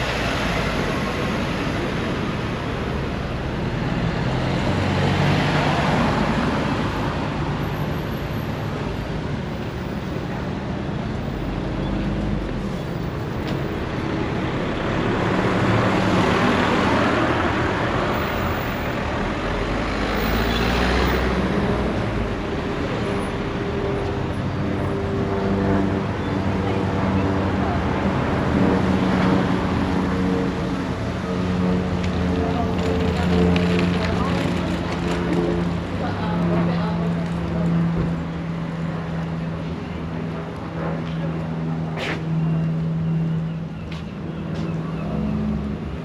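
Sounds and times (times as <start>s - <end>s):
traffic rumble: 0.0s - 46.0s
vehicles passing by: 0.0s - 46.0s.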